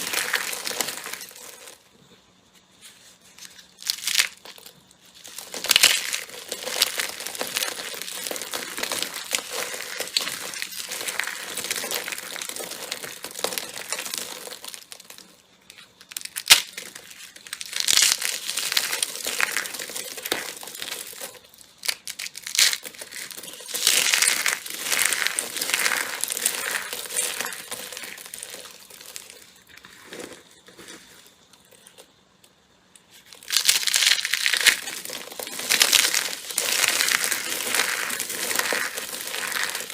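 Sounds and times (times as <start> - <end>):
slime crackling: 3.7 - 31.0, 33.2 - 39.9.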